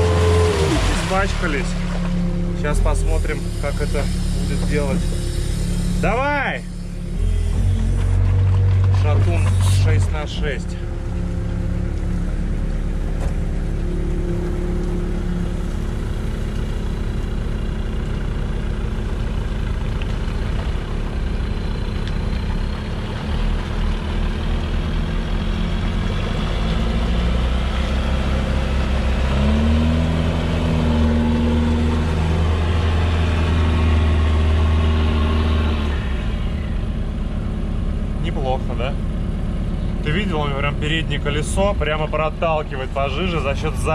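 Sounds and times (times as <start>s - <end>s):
engine revving under load: 0.0s - 17.1s, 23.2s - 43.9s
all-terrain vehicle engines running: 0.0s - 43.9s.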